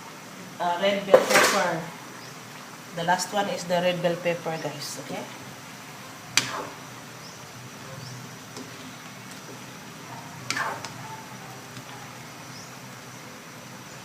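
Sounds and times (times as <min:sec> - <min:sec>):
food simmering with hiss: 0:00.0 - 0:14.0.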